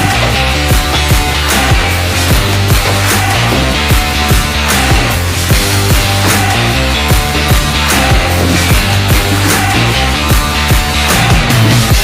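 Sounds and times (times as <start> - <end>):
bass guitar: 0.0 - 12.0
steady drum beat: 0.0 - 12.0.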